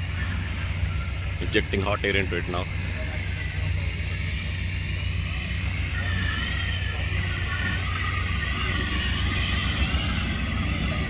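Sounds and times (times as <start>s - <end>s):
inflator fan rumbling: 0.0s - 11.0s.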